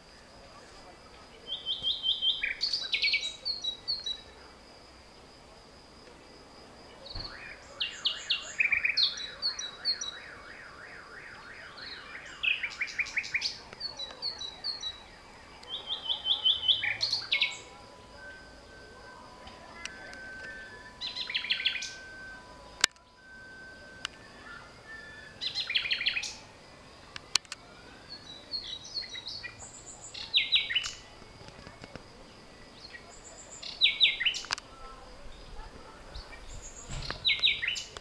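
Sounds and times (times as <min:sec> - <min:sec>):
songbirds chirping and trilling: 0:00.0 - 0:38.0.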